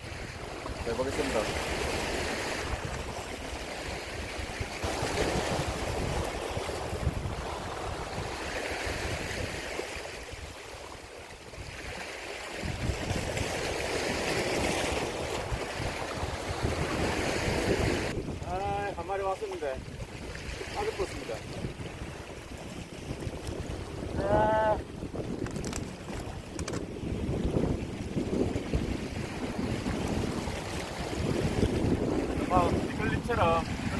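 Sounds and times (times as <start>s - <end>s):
sea waves washing on shore: 0.0s - 33.9s
wind on microphone: 0.0s - 33.9s.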